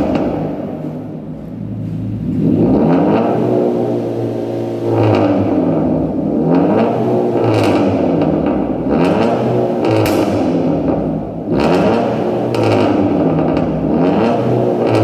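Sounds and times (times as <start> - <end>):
car engine revving: 0.0 - 15.0
exhaust crackles: 0.0 - 15.0.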